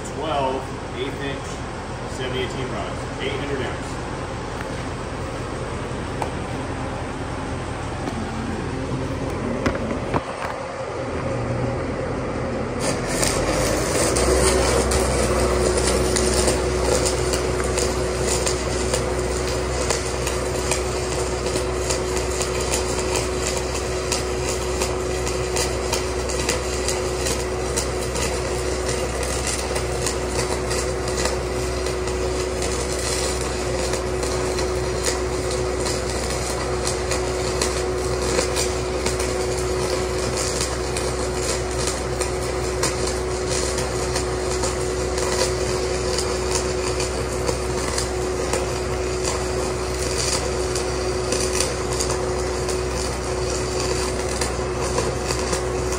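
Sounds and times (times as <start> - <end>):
welding arc crackling: 0.0 - 10.8, 12.6 - 55.9
welder engine drone: 0.0 - 55.9.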